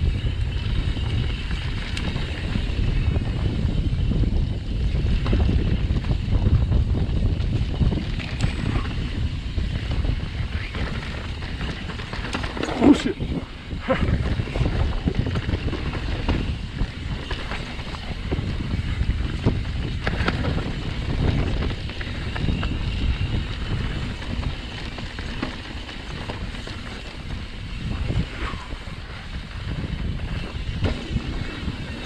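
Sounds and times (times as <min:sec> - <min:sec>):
bike tyres rumbling: 0:00.0 - 0:32.0
wind buffeting microphone: 0:00.0 - 0:32.0
bike rattling over rocks: 0:00.1 - 0:32.0.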